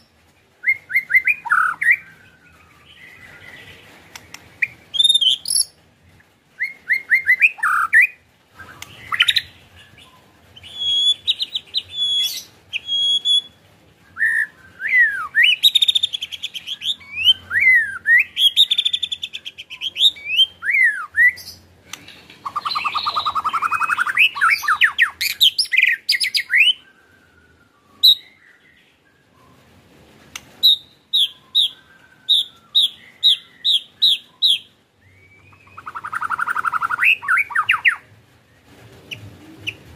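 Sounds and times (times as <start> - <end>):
bird singing whistled phrases: 0.6 - 3.7, 4.6 - 5.7, 6.6 - 21.6, 22.4 - 29.7, 30.6 - 38.1.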